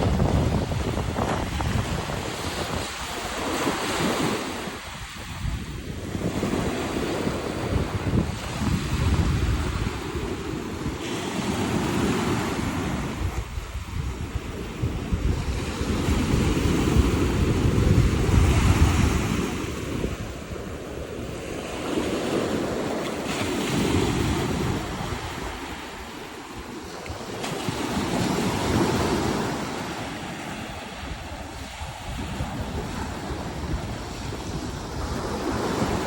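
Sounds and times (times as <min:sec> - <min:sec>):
waves washing onto beach: 0:00.0 - 0:36.0
wind rumbling on microphone: 0:00.0 - 0:36.0.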